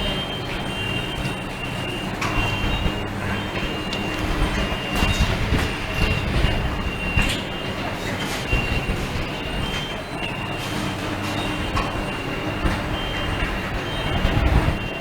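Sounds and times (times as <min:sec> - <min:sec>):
machine rumble and hum: 0:00.0 - 0:15.0.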